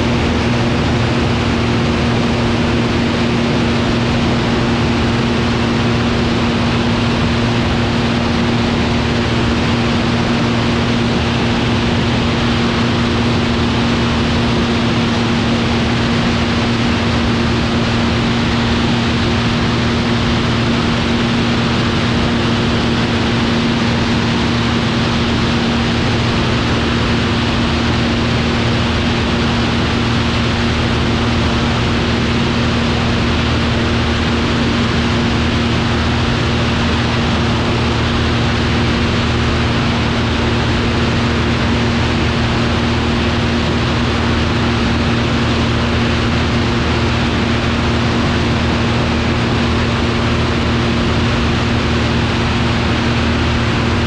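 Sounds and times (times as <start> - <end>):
aircraft engine and propeller hum: 0.0 - 54.0
loud air noise: 0.0 - 54.0.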